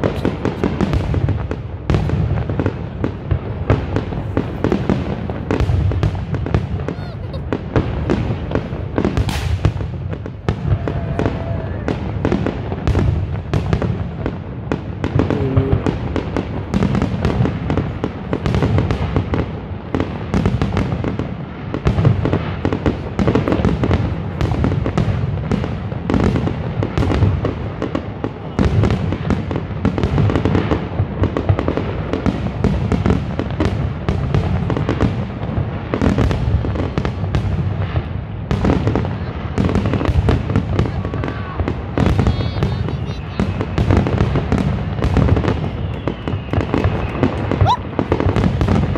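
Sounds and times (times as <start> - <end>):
crackling firework shells: 0.0 - 48.9
fireworks bangs: 0.0 - 48.9.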